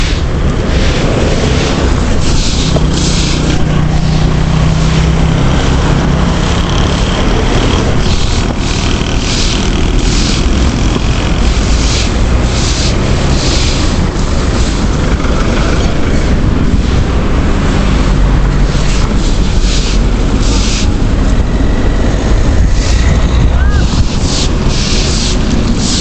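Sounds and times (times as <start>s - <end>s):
low engine hum: 0.0s - 26.0s
vehicles passing: 0.0s - 26.0s.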